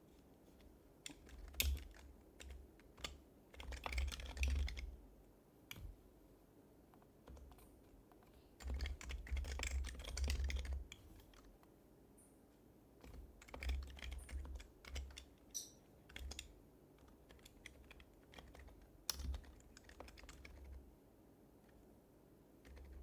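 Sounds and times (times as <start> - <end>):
soft muted keyboard typing: 0.0 - 5.1, 6.8 - 12.4, 13.0 - 23.0.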